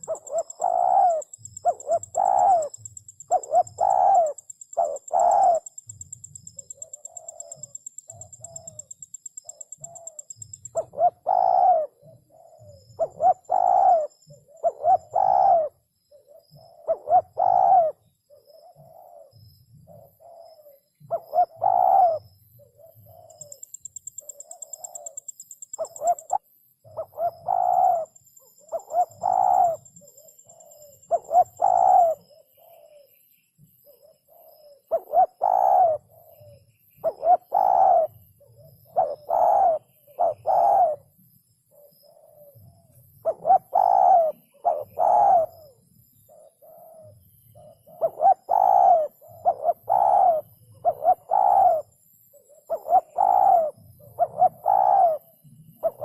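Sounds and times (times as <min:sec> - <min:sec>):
dove cooing: 0:00.0 - 0:33.2, 0:33.8 - 0:41.1, 0:41.7 - 0:56.0.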